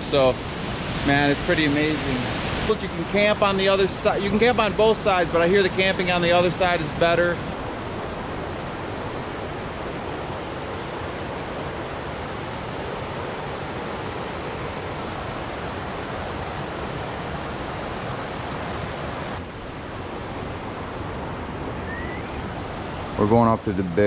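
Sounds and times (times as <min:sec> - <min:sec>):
waterfall rushing: 0:00.0 - 0:23.6.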